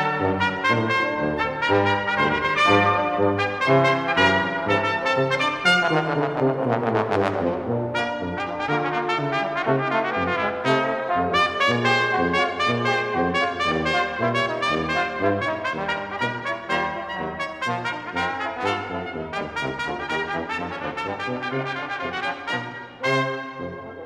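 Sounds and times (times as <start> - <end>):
brass music: 0.0 - 24.0.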